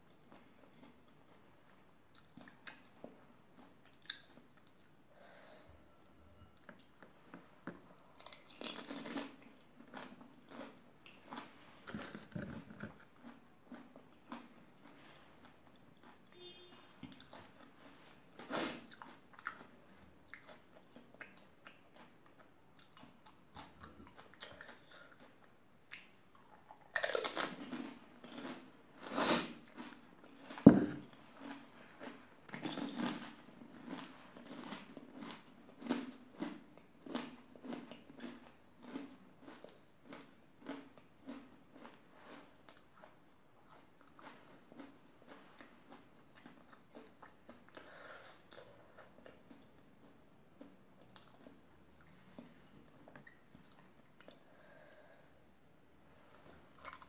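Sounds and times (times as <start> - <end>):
crunching and chewing: 0.0 - 1.5, 2.1 - 5.0, 6.6 - 54.8, 56.3 - 57.0.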